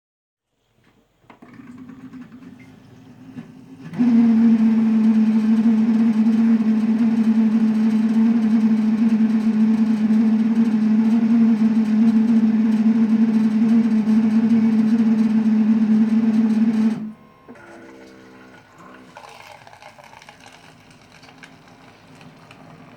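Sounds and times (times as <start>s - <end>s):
coffee maker humming loudly: 1.4s - 22.9s.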